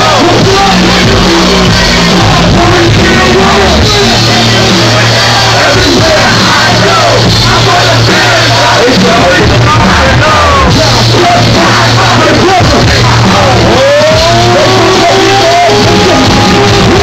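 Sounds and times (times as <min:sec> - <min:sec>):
deep bass line: 0:00.0 - 0:17.0
live concert music: 0:00.0 - 0:17.0
voices yelling and singing: 0:00.0 - 0:17.0.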